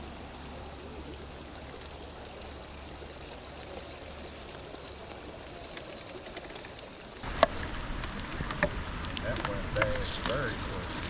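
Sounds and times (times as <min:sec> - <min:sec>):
running water over rocks: 0:00.0 - 0:11.0.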